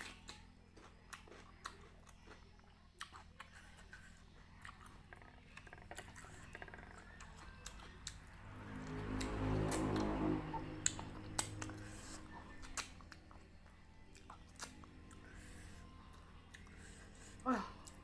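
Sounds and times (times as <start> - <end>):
low hum with stacked tones: 0.0 - 18.0
mouth chewing: 0.0 - 18.0.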